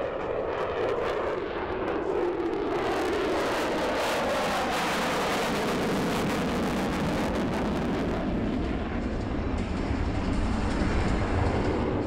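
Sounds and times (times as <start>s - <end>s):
jet engine crackling roar: 0.0s - 12.0s.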